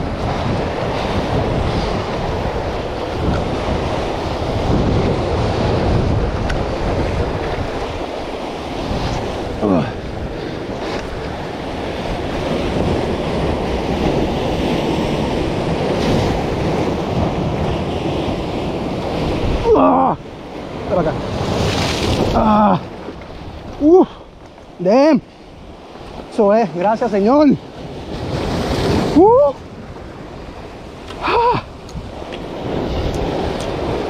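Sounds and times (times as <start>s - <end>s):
surf breaking over boulders: 0.0s - 34.0s
wind buffeting microphone: 0.0s - 34.0s.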